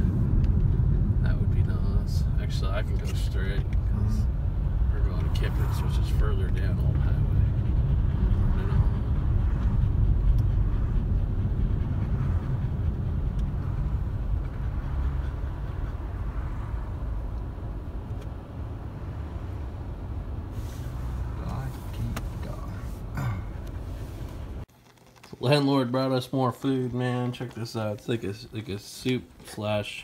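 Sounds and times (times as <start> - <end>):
tyres on wet road: 0.0 - 24.7
car engine rumble: 0.0 - 25.0.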